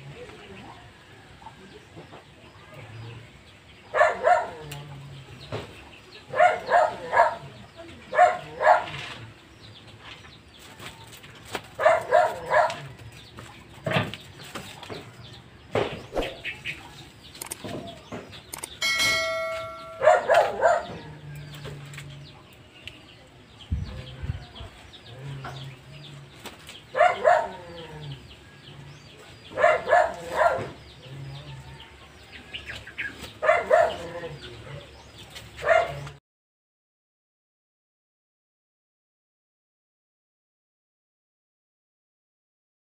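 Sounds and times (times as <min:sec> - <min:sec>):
chickens clucking: 0:00.0 - 0:36.1.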